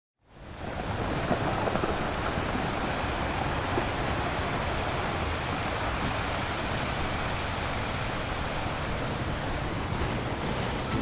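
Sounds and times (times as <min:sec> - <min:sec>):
steady rushing noise: 0:00.3 - 0:11.0.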